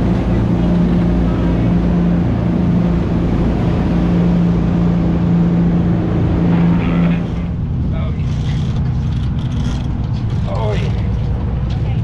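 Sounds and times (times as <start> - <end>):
boat engines droning: 0.0 - 12.0
churning wake water: 0.0 - 12.0.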